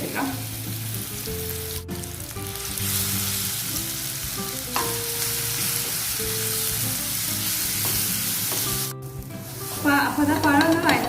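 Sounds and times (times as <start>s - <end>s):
banana sizzling in pan: 0.0s - 11.0s.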